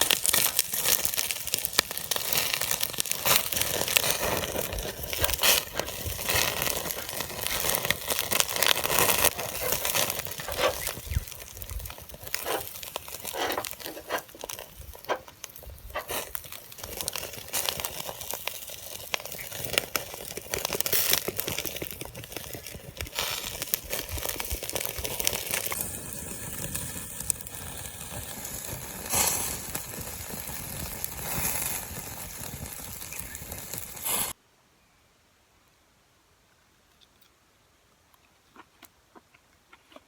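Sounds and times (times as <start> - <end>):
campfire crackling and popping: 0.0 - 34.4.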